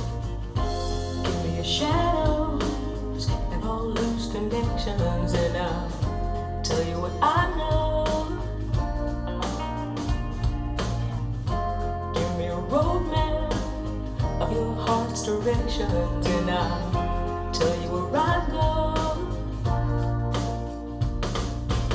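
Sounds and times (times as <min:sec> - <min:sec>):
bass line: 0:00.0 - 0:21.9
song with vocals and guitar: 0:00.0 - 0:21.9.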